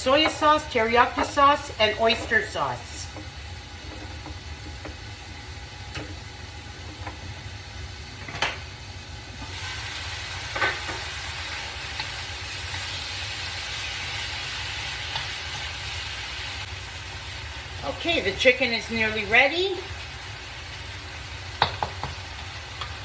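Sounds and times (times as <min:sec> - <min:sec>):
food sizzling in a hot pan: 0:00.0 - 0:23.0.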